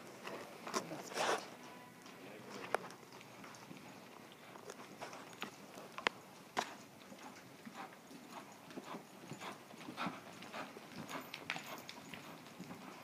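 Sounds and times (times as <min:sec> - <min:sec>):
hoofbeats on soft dirt: 0:01.6 - 0:13.0.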